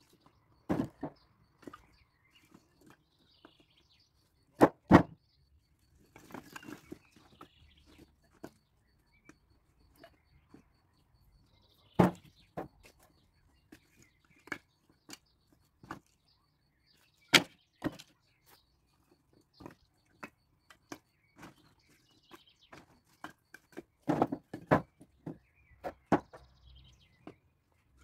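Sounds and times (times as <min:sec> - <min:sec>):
firewood logs clattering: 0:00.1 - 0:03.7, 0:04.5 - 0:05.2, 0:05.9 - 0:10.6, 0:11.8 - 0:16.2, 0:17.3 - 0:28.0.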